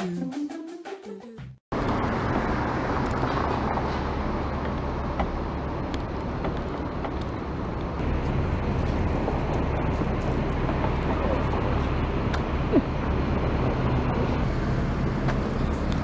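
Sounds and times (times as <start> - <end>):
low traffic rumble: 1.7 - 16.0.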